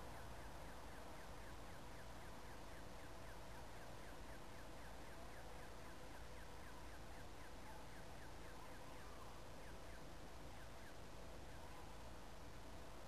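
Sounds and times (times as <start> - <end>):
hiss and low rumble: 0.0 - 13.0.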